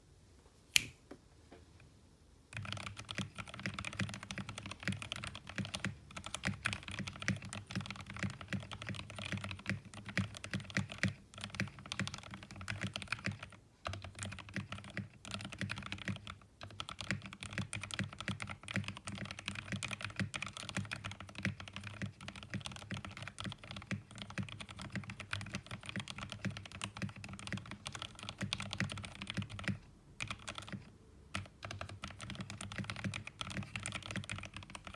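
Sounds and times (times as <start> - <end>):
fast typing on mechanical keyboard: 2.5 - 34.9.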